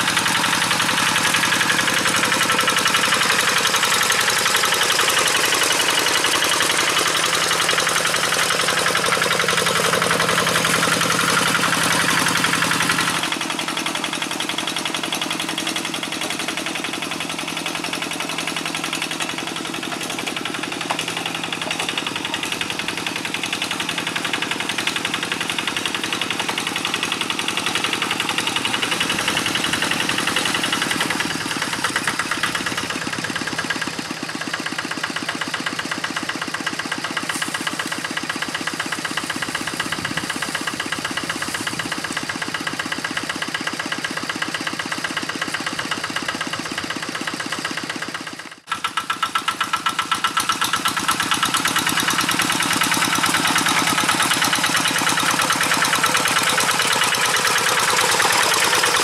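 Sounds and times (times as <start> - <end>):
diesel tractor engine chugging: 0.0 - 59.0.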